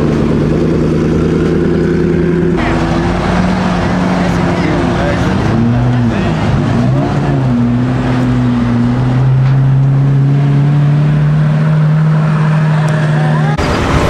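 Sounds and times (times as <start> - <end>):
car engine pulling away: 0.0 - 14.0.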